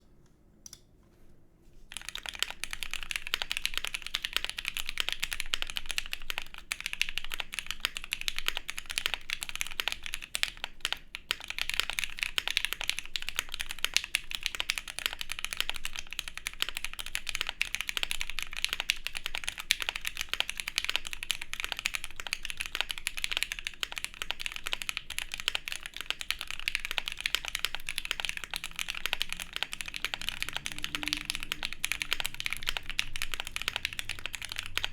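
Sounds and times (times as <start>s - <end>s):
mechanical keyboard typing: 1.9s - 34.9s.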